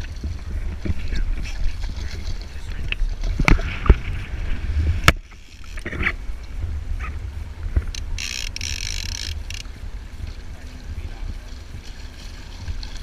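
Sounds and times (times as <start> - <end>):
water sloshing against boat hull: 0.0 - 13.0
wind rumbling on microphone: 0.0 - 13.0.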